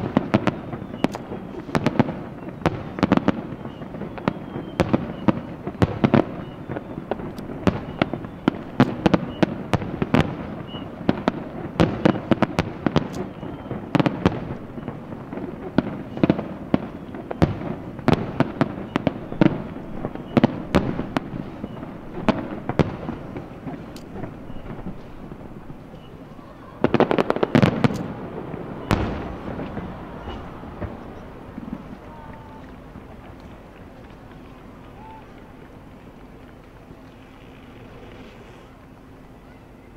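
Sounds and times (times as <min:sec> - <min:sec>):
fireworks bangs and crackles: 0:00.0 - 0:38.3
continuous rumble: 0:00.0 - 0:39.9.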